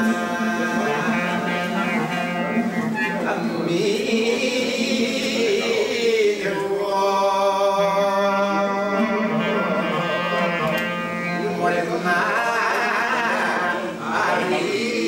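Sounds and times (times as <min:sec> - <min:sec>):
man singing folk song: 0:00.0 - 0:02.6, 0:03.3 - 0:10.5, 0:11.3 - 0:15.0.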